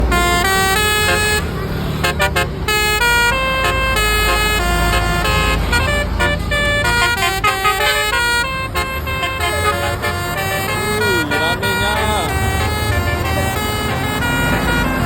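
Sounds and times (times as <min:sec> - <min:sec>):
bus horn tooting a tune: 0:00.0 - 0:15.0.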